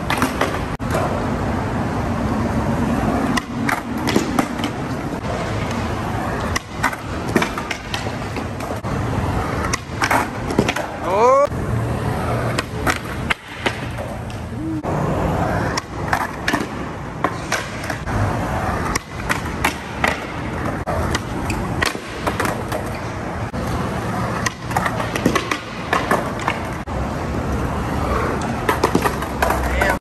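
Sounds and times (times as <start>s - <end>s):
skateboards clacking on ground: 0.0s - 1.7s, 2.8s - 30.0s
skateboard wheels rolling on concrete: 0.0s - 30.0s.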